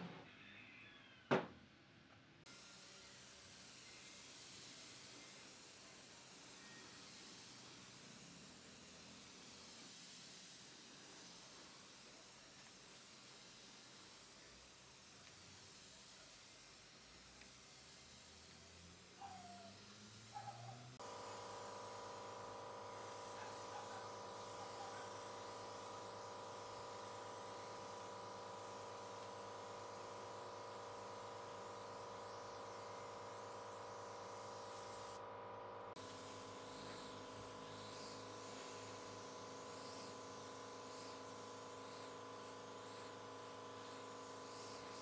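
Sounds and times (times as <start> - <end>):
air compressor buzzing hum: 2.5 - 45.0
spray gun hiss: 2.5 - 45.0.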